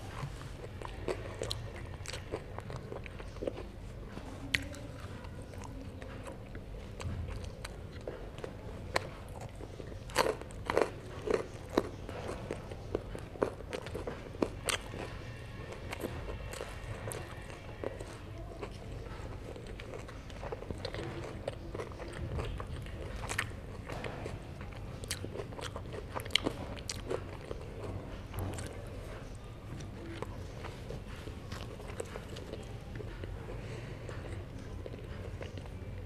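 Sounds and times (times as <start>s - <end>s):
soft chewing: 0.0s - 36.0s.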